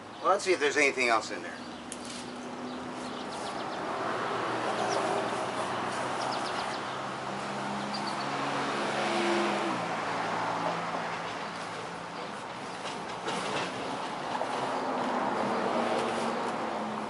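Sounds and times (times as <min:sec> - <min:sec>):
vehicle passing with engine hum: 0:00.2 - 0:17.0.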